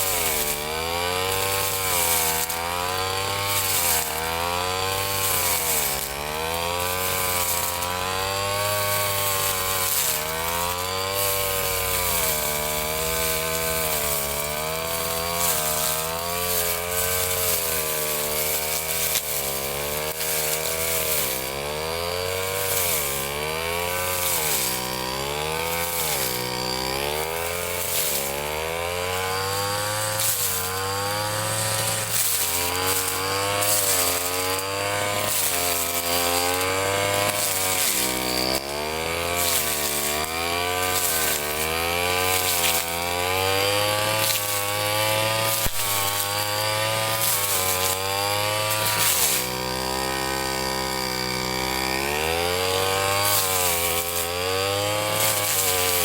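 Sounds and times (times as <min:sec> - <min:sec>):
brush cutter engine cutting grass: 0:00.0 - 0:56.0.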